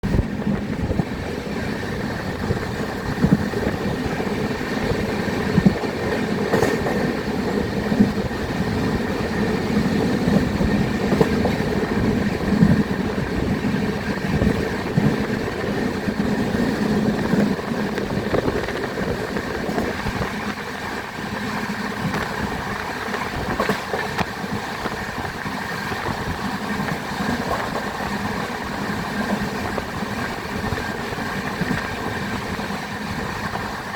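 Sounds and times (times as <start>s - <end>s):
train wheels rumbling on track: 0.0s - 33.9s
sharp track clicks: 1.2s - 32.8s.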